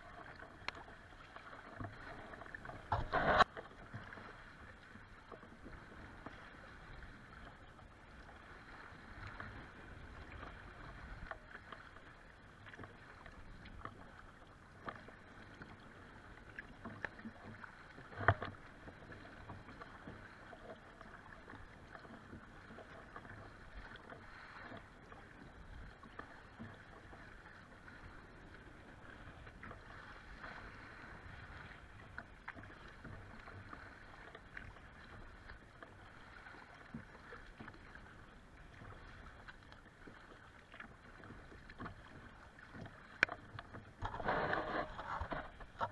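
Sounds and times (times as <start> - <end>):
paddle splashes: 0.0 - 45.9.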